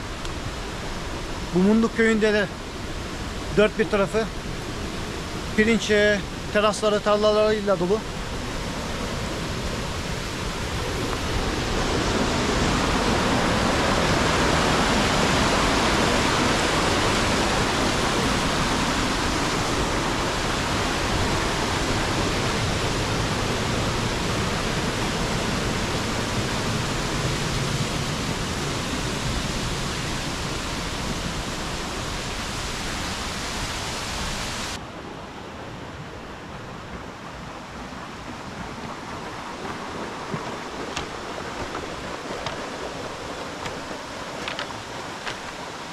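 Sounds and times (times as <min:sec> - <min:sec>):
stream flowing over stones: 0:00.0 - 0:34.8, 0:38.0 - 0:45.9.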